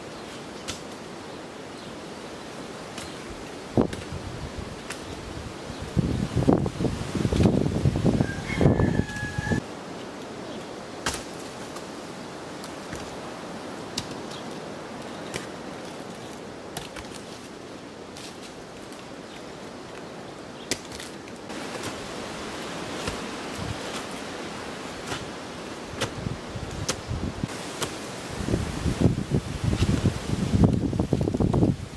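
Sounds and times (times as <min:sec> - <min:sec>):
wind rustling leaves: 0:00.0 - 0:31.9.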